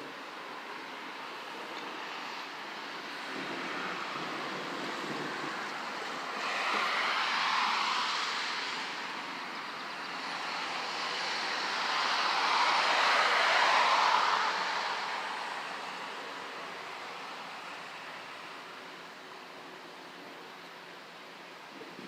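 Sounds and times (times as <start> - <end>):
storm wind gusting: 0.4 - 18.9.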